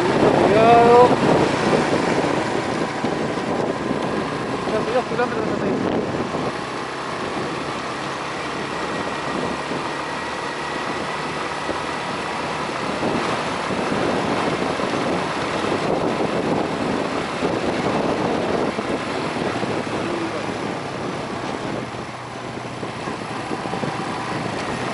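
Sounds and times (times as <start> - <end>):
motorcycle engine running: 0.0 - 24.9
road and wind noise: 0.0 - 24.9.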